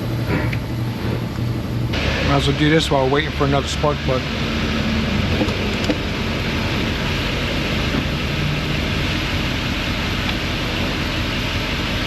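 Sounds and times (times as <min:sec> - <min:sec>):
vehicle running mechanical noise: 0:00.0 - 0:12.0.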